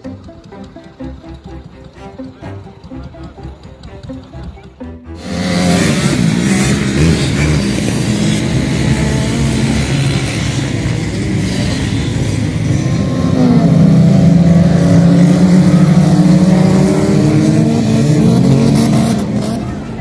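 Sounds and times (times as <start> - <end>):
car engine revving: 0.0 - 20.0
dirt bike engines revving: 0.0 - 20.0.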